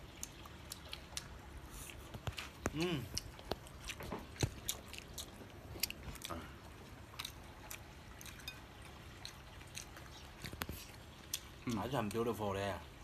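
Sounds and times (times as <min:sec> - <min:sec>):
people chewing: 0:00.0 - 0:12.6.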